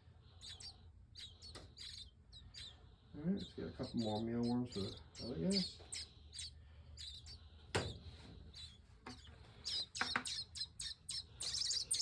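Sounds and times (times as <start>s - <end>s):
nestling birds chirping: 0.0s - 12.0s.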